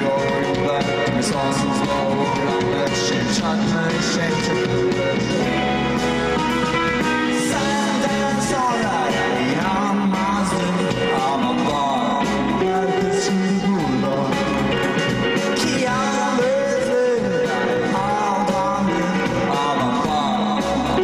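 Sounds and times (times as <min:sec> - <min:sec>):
rock band playing live: 0:00.0 - 0:21.0
sliding bending guitar melody: 0:00.0 - 0:21.0.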